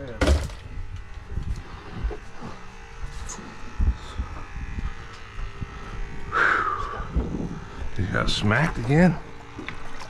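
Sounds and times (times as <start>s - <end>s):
faint mechanical buzz and hum: 0.0s - 10.0s.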